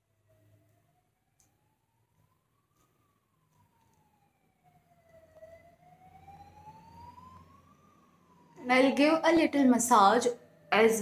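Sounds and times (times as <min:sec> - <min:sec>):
faint siren wailing: 0:00.0 - 0:11.0.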